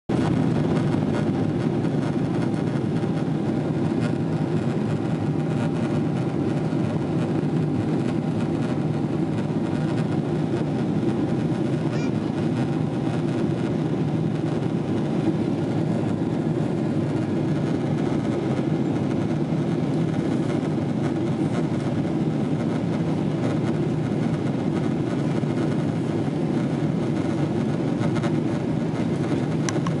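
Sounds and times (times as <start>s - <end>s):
jet engines low rumble: 0.1s - 30.0s.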